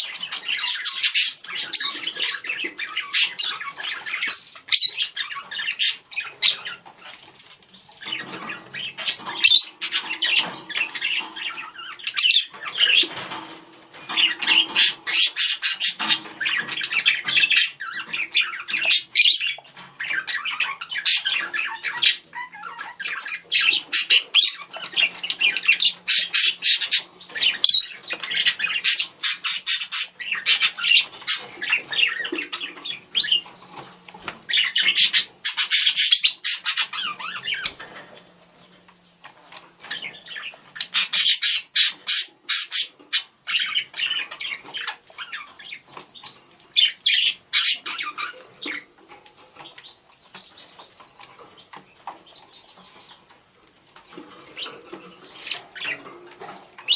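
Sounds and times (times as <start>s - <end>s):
budgerigars chattering: 0.0s - 37.9s, 38.6s - 53.3s, 54.1s - 56.9s.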